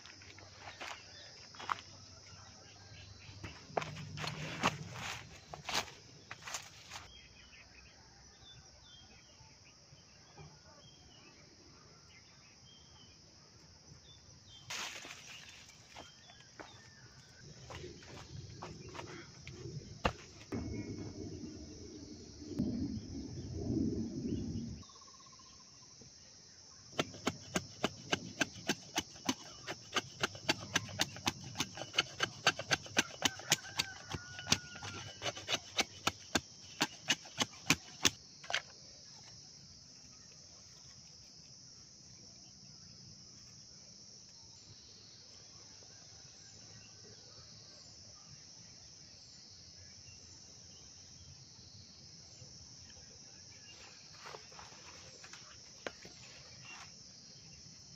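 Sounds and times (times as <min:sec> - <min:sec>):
insects chirring: 0:00.0 - 0:07.7, 0:11.0 - 0:57.9.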